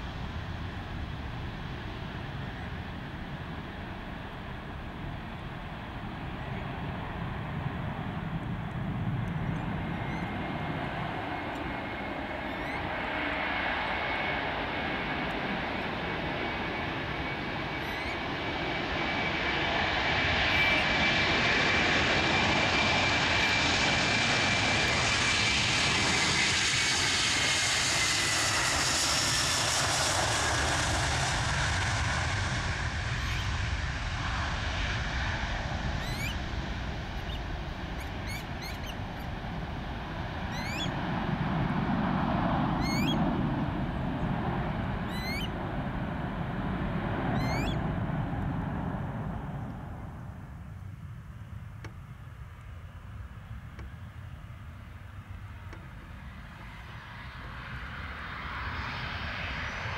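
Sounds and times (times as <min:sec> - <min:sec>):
jet engines roaring with whine: 0:00.0 - 0:59.9
low jet rumble: 0:00.0 - 0:59.9.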